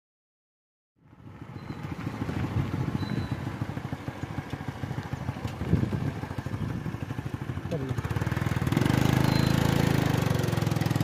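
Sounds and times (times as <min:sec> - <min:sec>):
motorcycle engine running: 0:01.0 - 0:11.0.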